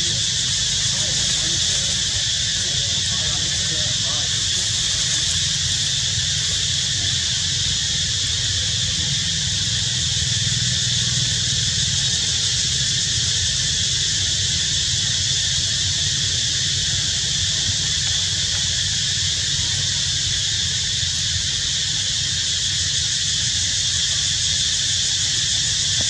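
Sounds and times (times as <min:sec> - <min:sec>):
high hiss: 0:00.0 - 0:26.0.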